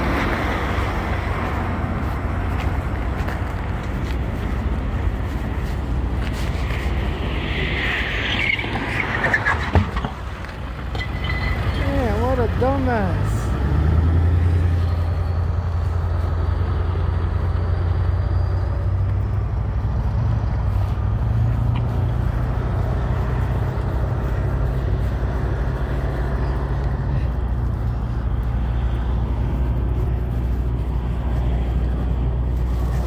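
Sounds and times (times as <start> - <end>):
road noise: 0.0 - 33.0
vehicle engines humming: 0.0 - 33.0.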